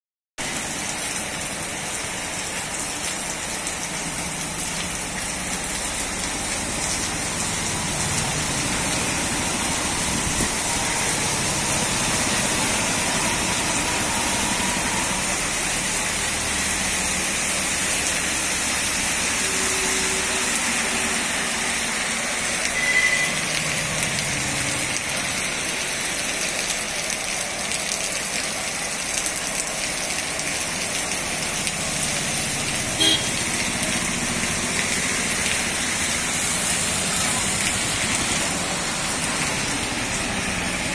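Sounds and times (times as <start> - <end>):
heavy rain on pavement: 0.4 - 40.9
vehicles swishing through water: 0.4 - 40.9.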